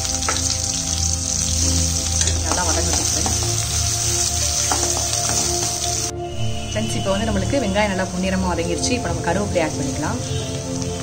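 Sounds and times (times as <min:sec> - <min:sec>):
vegetables sizzling in hot oil: 0:00.0 - 0:06.1, 0:07.2 - 0:11.0.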